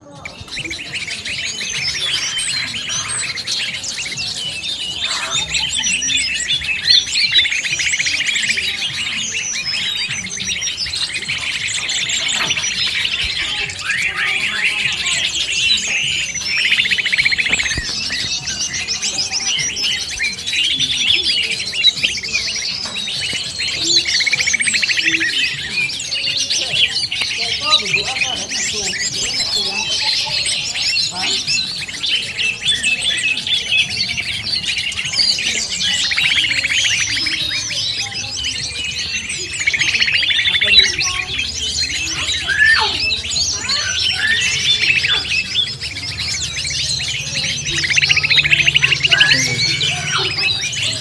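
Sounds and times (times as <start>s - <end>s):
leafbird song: 0.0s - 51.0s
small birds chirping and trilling: 0.0s - 51.0s.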